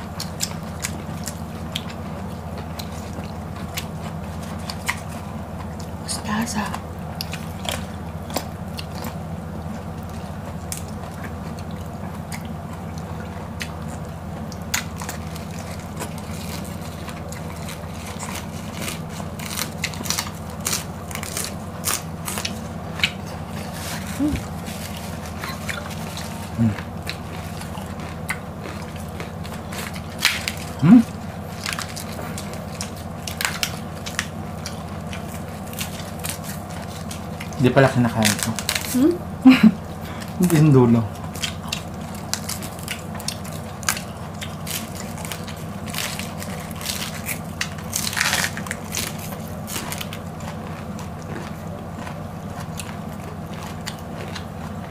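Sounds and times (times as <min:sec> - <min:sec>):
chewing crunchy raw vegetables: 0:00.0 - 0:54.9
low background hum: 0:00.0 - 0:54.9.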